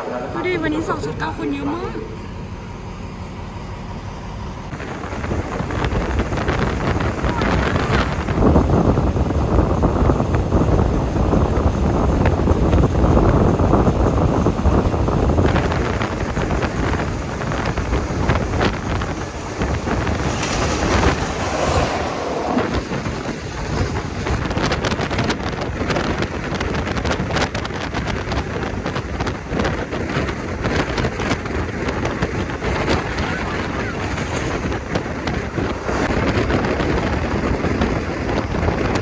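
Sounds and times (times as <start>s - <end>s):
train rumble: 0.0s - 39.0s
rush of noise: 3.7s - 39.0s
wind buffeting microphone: 4.4s - 39.0s.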